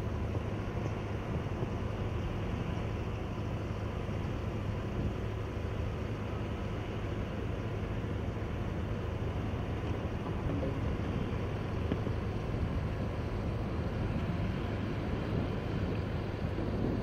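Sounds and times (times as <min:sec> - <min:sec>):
outdoor ambience: 0:00.0 - 0:17.0
wind rumble on microphone: 0:00.0 - 0:17.0.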